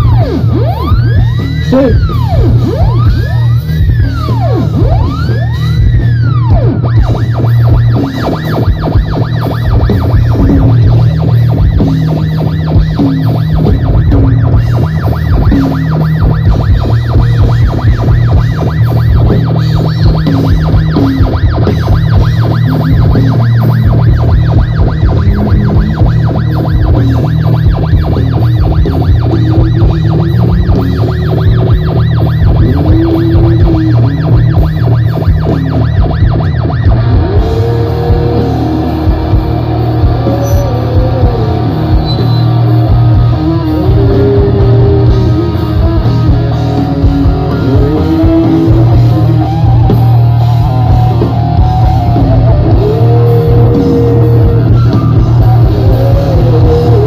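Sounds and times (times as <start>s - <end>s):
distorted electric guitar: 0.0s - 57.0s
rock band playing: 0.0s - 57.0s.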